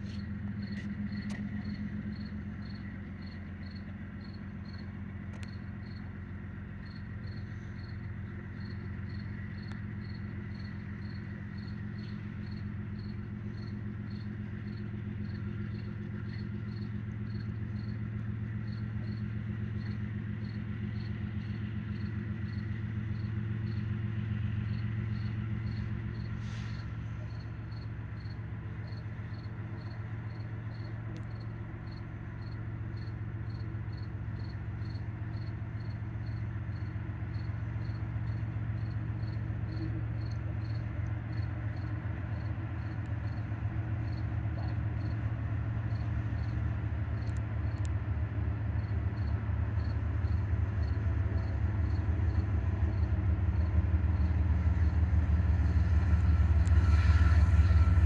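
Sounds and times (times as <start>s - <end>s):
crickets chirping: 0.0s - 47.8s, 48.8s - 58.0s
diesel locomotive engine drone: 0.0s - 58.0s.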